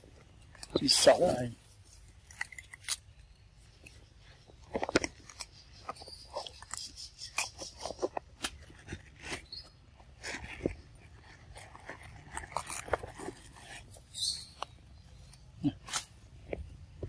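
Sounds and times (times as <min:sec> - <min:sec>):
monkey crunching cucumber: 0:00.0 - 0:17.0.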